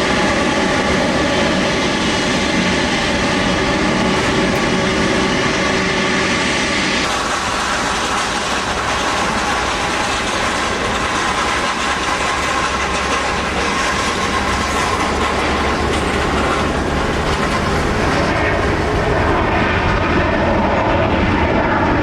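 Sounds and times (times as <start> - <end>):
jet airliner engines running: 0.0 - 22.0.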